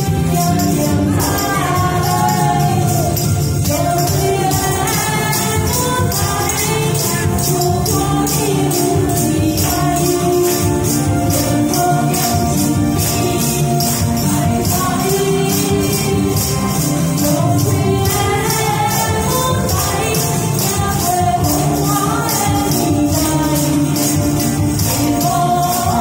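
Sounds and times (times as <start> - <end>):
accompanying music: 0.0 - 26.0
tambourines shaken and struck: 0.0 - 26.0.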